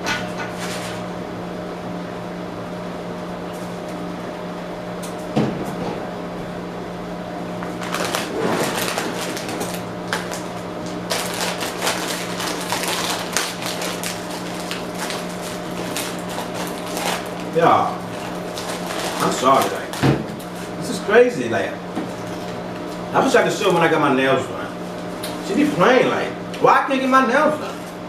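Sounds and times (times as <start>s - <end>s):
steady electrical hum: 0.0s - 28.0s.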